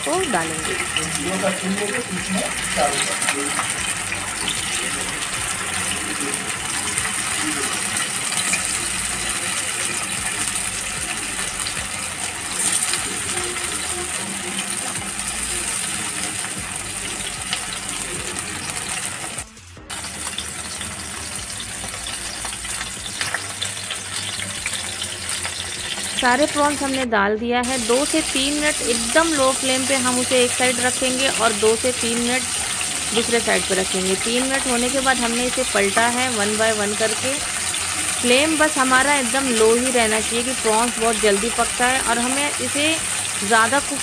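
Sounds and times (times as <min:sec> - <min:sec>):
prawns sizzling in hot oil: 0:00.0 - 0:27.0, 0:27.6 - 0:44.0.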